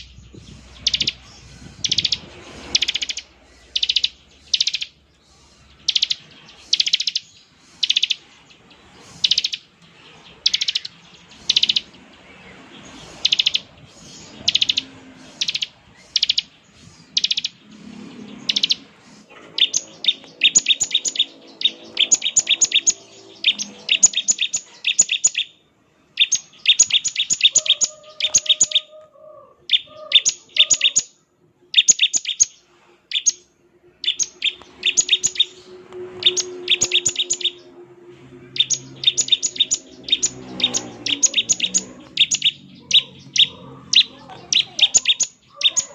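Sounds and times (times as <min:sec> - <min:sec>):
bird fast chattering: 0:00.0 - 0:12.0, 0:12.8 - 0:25.6, 0:26.2 - 0:28.9, 0:29.7 - 0:33.4, 0:34.0 - 0:37.7, 0:38.5 - 0:45.9
bird buzzy calls: 0:00.0 - 0:45.9.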